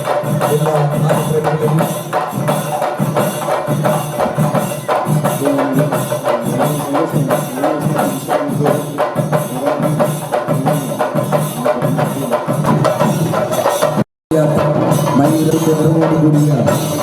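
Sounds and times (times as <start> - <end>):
jingling and clacking percussion: 0.0 - 17.0.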